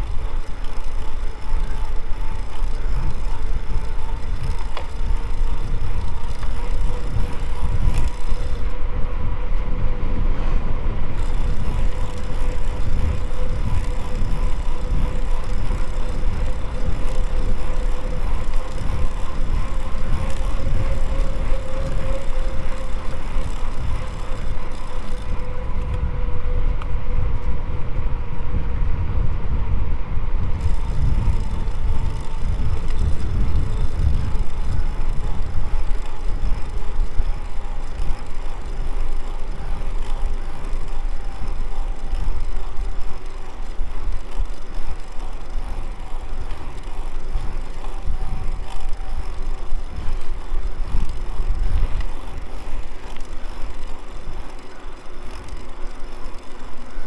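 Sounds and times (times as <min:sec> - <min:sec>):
bike tyres on trail: 0:00.0 - 0:57.0
faint humming tone: 0:00.0 - 0:57.0
wind on microphone: 0:00.0 - 0:57.0.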